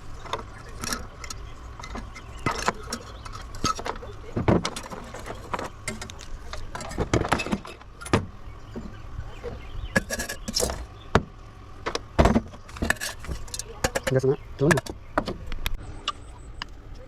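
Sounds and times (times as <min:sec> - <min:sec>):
metal parts and tools clinking: 0:00.0 - 0:10.9, 0:12.2 - 0:15.0.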